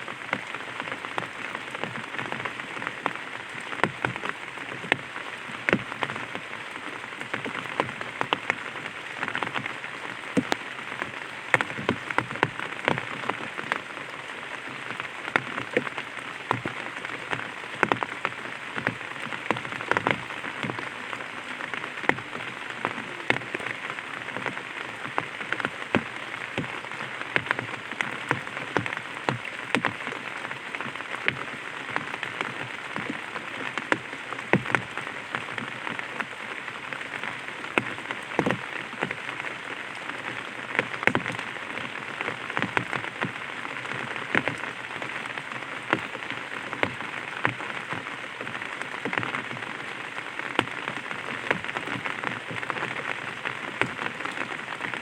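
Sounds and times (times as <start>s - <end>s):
rain hiss: 0.0s - 55.0s
raindrops tapping on umbrella: 0.0s - 55.0s.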